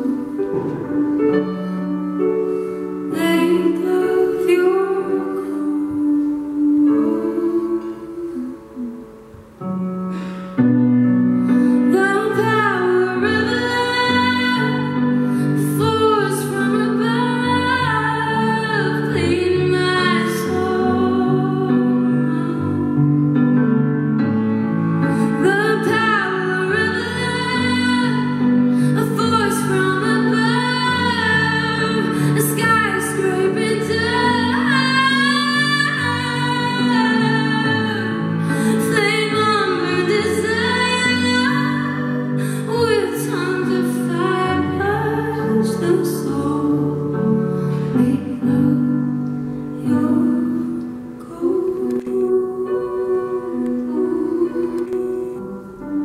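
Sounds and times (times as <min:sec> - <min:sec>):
woman singing: 0:00.0 - 0:09.5, 0:11.5 - 0:24.3, 0:25.0 - 0:56.0
keyboard piano chords: 0:00.0 - 0:56.0.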